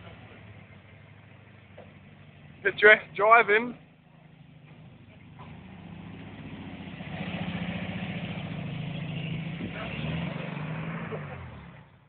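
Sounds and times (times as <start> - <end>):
van engine running: 0.0 - 12.0.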